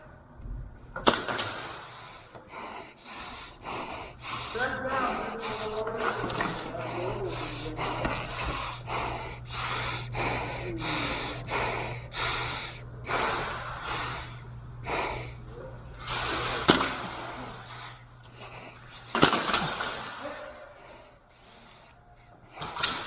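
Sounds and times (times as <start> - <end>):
heavy breathing: 1.0 - 23.0.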